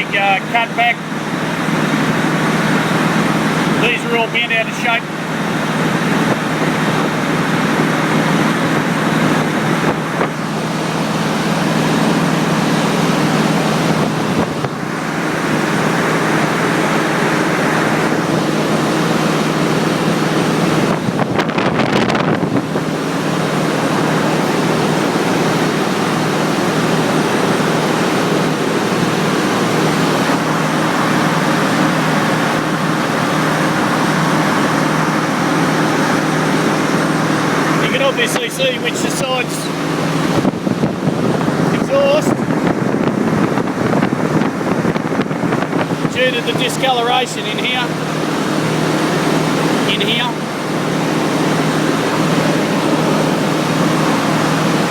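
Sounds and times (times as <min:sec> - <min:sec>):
loud machinery din: 0:00.0 - 0:54.9.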